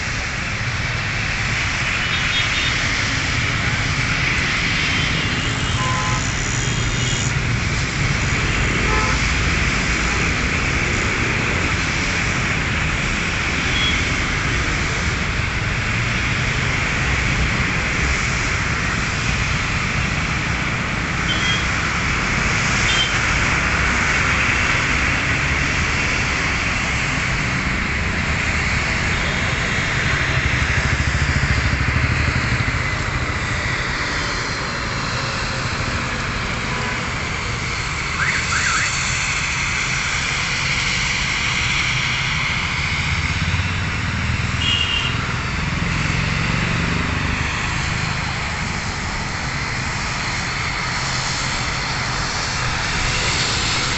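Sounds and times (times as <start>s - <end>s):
jet airliner engines: 0.0s - 53.9s
road traffic: 0.0s - 53.9s.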